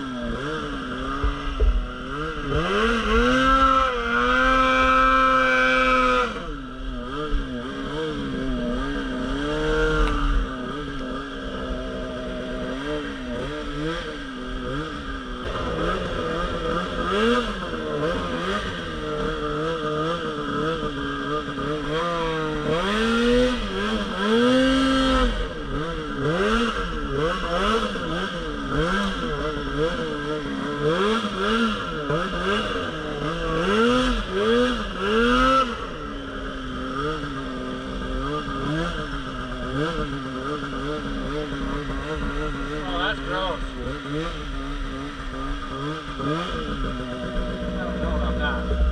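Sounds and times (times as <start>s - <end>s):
snowmobile engine revving: 0.0s - 48.9s.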